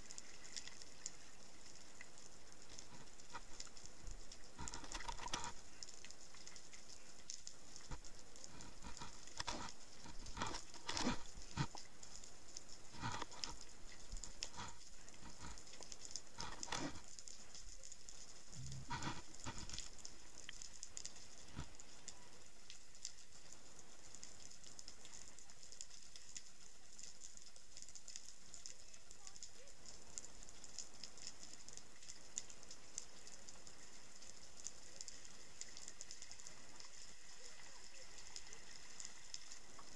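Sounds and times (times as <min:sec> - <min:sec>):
underwater crackle of clicks: 0:00.0 - 0:39.9.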